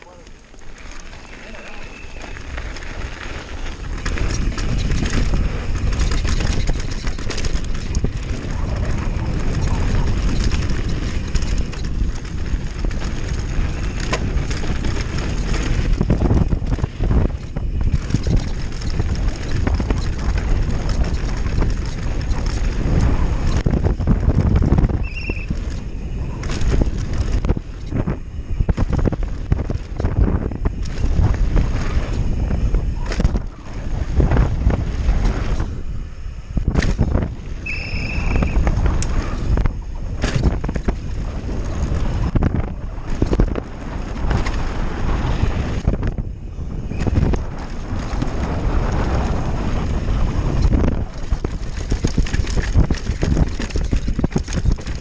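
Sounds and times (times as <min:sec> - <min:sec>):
bike rattling and knocking: 0:00.0 - 0:55.0
tyres rumbling over dirt: 0:00.0 - 0:55.0
wind buffeting microphone: 0:00.0 - 0:55.0.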